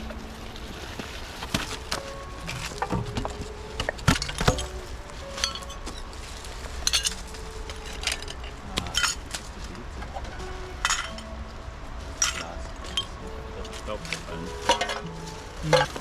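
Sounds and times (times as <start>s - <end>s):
glass bottles clinking: 0.0s - 16.0s.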